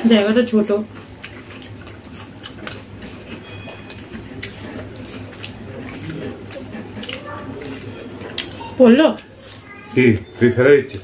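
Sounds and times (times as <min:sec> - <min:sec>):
steady low hum: 0:00.0 - 0:11.0
wet chewing clicks and smacks: 0:00.9 - 0:09.7.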